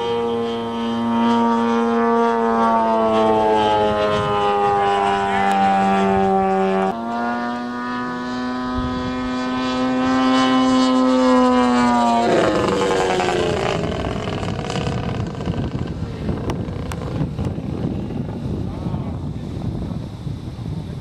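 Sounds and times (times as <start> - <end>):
model aircraft engine running: 0.0 - 21.0.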